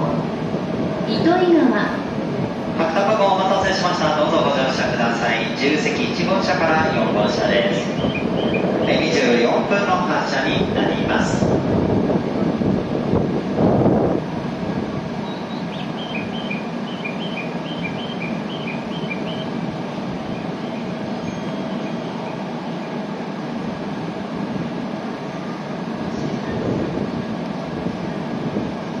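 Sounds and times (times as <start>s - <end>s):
train humming: 0.0s - 29.0s.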